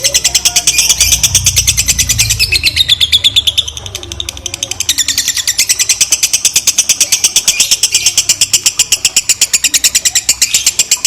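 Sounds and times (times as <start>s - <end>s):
lovebird chattering rattle: 0.0s - 11.0s.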